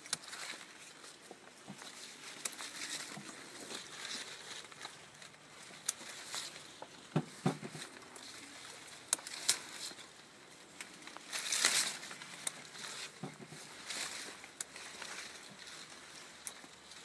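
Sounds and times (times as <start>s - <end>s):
vine leaves rustling: 0.0s - 17.0s.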